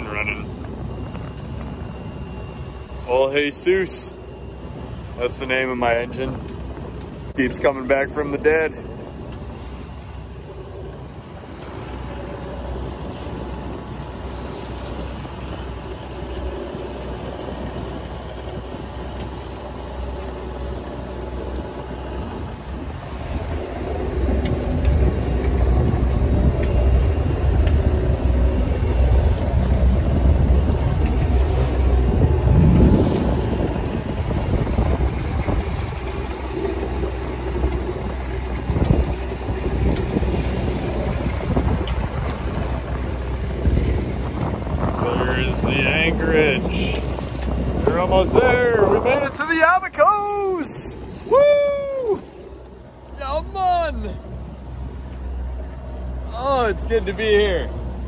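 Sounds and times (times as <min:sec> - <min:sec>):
boat engine humming: 0:00.0 - 0:58.0
water rushing past hull: 0:00.0 - 0:58.0
wind on microphone: 0:00.0 - 0:58.0.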